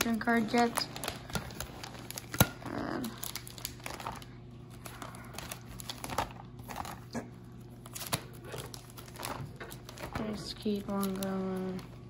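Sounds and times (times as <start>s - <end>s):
plastic sleeves crinkling: 0.0s - 12.0s.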